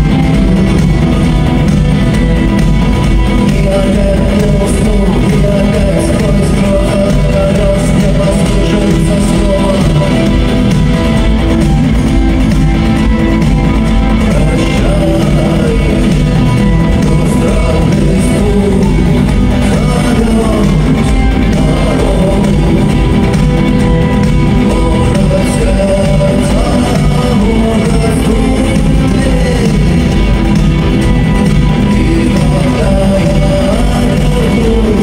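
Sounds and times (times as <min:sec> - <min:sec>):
live rock band: 0:00.0 - 0:35.0
person singing: 0:00.0 - 0:35.0.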